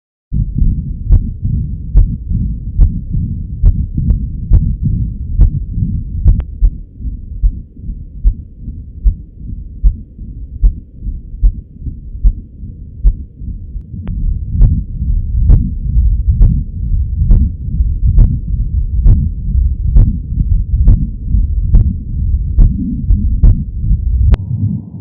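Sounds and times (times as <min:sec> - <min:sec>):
heartbeat thuds: 0:00.3 - 0:24.4
low rushing noise: 0:00.4 - 0:25.0.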